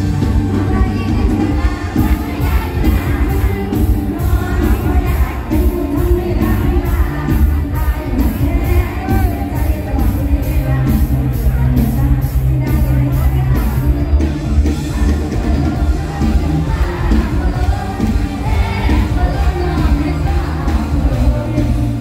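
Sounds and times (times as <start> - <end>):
amplified band music with heavy bass: 0.0 - 22.0
person singing: 0.0 - 22.0.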